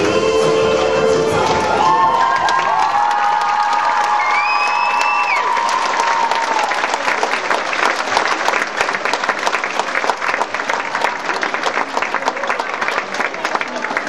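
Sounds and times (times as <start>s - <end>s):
audience applauding: 1.3s - 14.0s.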